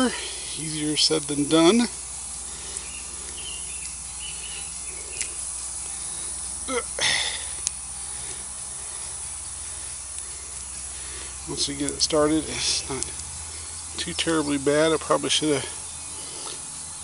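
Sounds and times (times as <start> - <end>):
faint chirps: 0.0 - 17.0
low hum and hiss: 0.0 - 17.0.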